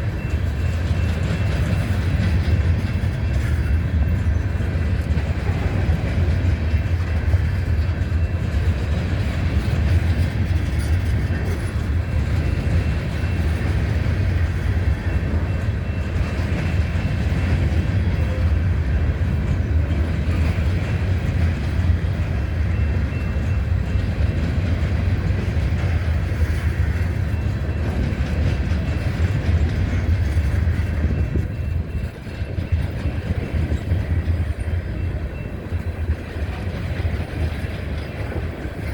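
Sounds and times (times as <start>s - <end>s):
freight train rolling on rails: 0.0s - 38.9s.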